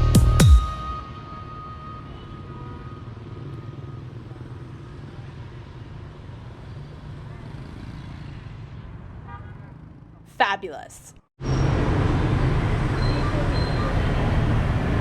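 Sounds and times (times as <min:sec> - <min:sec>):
motorbikes passing: 0:01.1 - 0:15.0.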